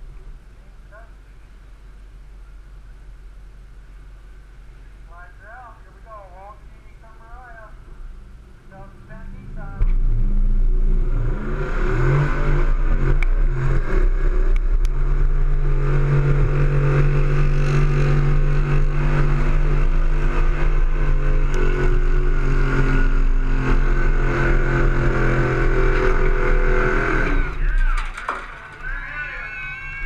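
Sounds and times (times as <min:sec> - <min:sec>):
truck engine running hard: 0:00.0 - 0:30.0.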